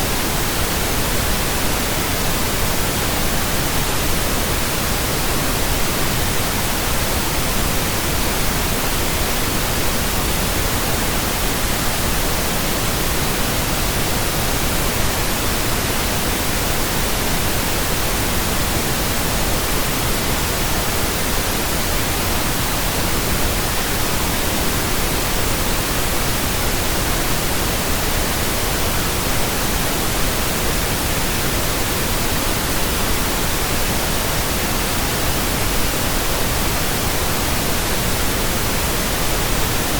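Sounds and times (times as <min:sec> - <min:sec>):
synthesized pink noise hiss: 0:00.0 - 0:39.9.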